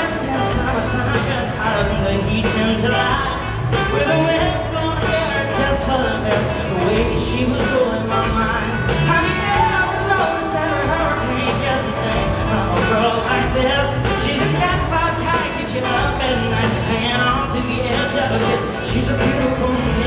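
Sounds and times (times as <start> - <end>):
acoustic guitar: 0.0 - 20.0
bass: 0.0 - 20.0
drum beat: 0.0 - 20.0
man singing: 0.0 - 20.0.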